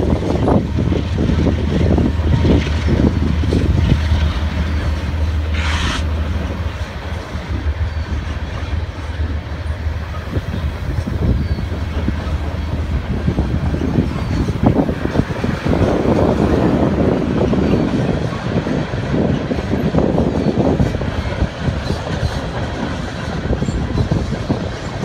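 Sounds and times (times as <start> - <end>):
locomotive engine drone: 0.0 - 25.0
rumble of train rolling by: 0.0 - 25.0
wind buffeting microphone: 0.0 - 25.0.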